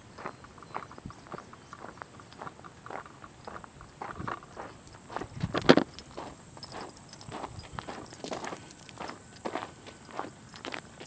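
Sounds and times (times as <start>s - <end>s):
footsteps on gravel: 0.1s - 11.0s.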